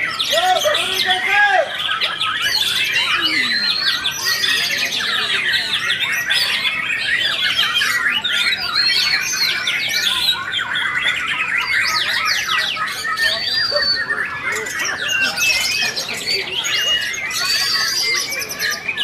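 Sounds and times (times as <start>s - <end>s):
birds singing whistles and trills: 0.0s - 19.0s.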